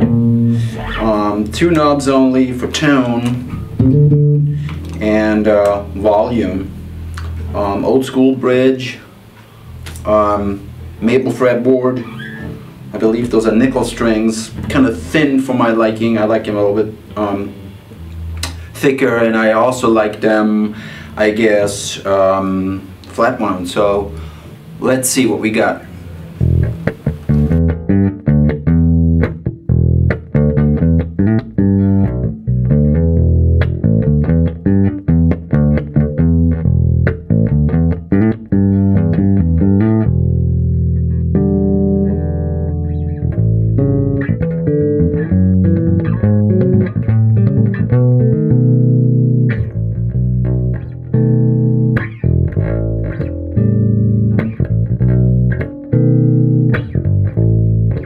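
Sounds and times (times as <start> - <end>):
electric bass playing: 0.0 - 58.0.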